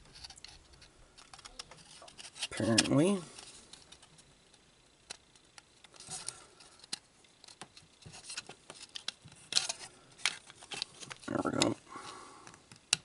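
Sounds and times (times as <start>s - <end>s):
plastic parts clicking: 0.1s - 11.8s.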